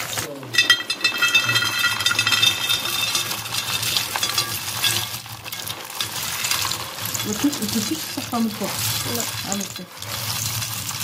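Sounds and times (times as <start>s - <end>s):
dry snacks clattering on ceramic plate: 0.6s - 11.0s.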